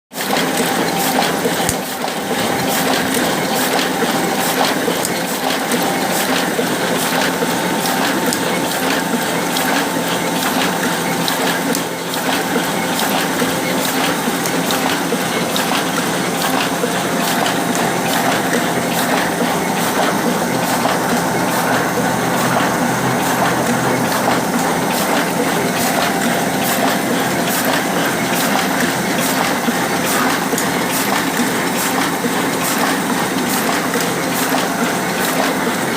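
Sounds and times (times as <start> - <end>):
printing press whirring: 0.1 - 35.9
rapid mechanical clicking: 0.2 - 35.9.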